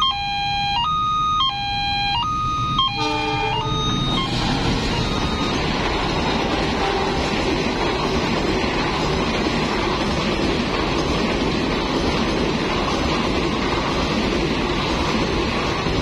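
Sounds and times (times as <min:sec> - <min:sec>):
train wheels rumbling on rails: 0:02.3 - 0:16.0.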